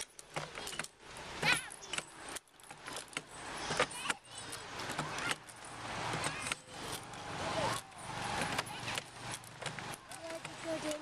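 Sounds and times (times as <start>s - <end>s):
wooden seat clicking and rattling: 0.0s - 11.0s.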